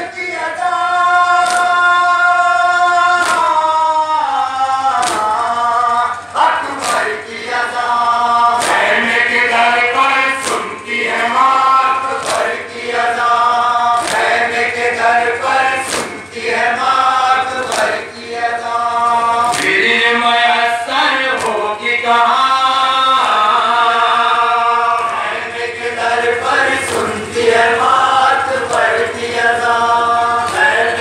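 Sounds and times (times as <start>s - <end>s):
men chanting in unison: 0.0s - 31.0s
synchronized chest-beating strokes: 0.5s - 31.0s.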